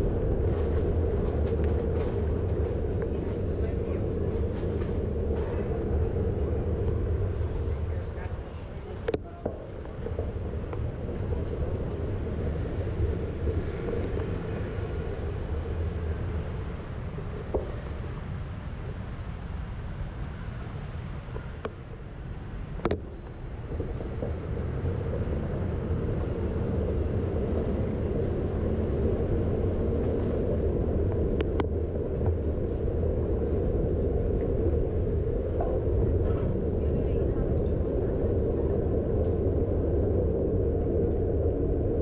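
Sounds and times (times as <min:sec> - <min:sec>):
cars and scooters passing: 0:00.0 - 0:42.0
road and wind noise: 0:00.0 - 0:42.0.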